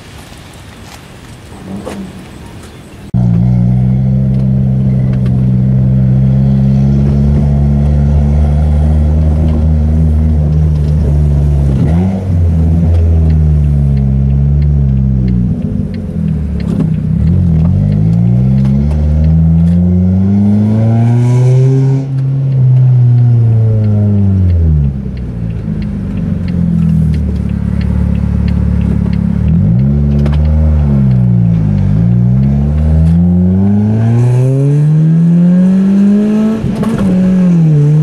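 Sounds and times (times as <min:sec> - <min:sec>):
car engine running inside cabin: 0:03.1 - 0:38.0.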